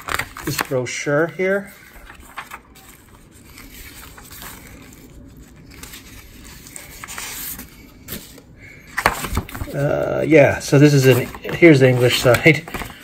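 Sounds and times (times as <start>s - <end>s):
paper rustling: 0.0s - 8.4s, 9.0s - 9.9s, 10.8s - 13.0s.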